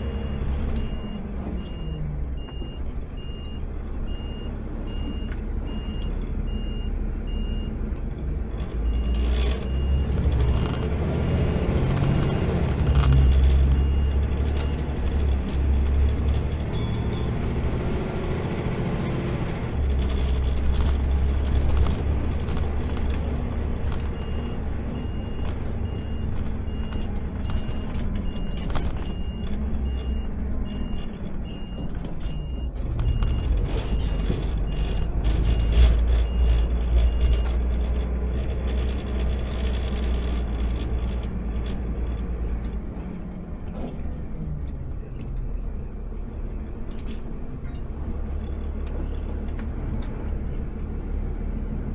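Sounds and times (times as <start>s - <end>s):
truck engine rumbling: 0.0s - 51.9s.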